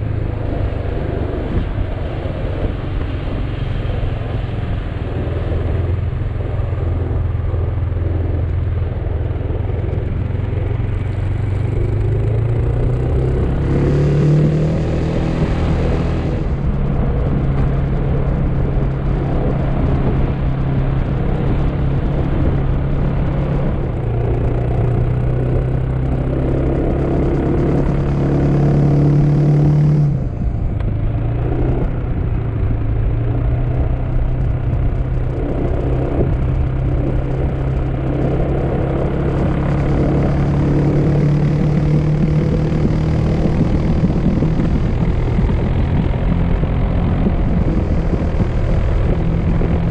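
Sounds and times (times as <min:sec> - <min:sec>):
scooter engine running: 0:00.0 - 0:49.9
wind rushing: 0:00.0 - 0:49.9.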